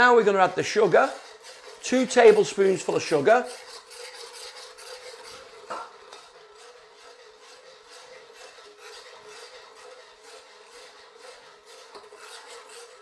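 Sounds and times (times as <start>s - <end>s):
spatula scraping metal wok: 0.0s - 13.0s.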